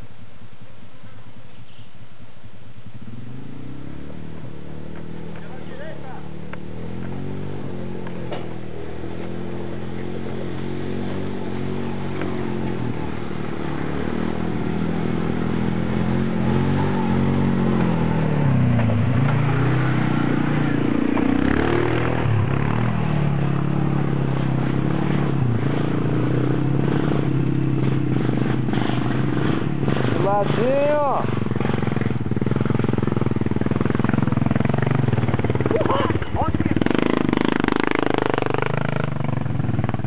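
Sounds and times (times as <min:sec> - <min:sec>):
quad bike engine labouring: 0:03.0 - 0:40.0.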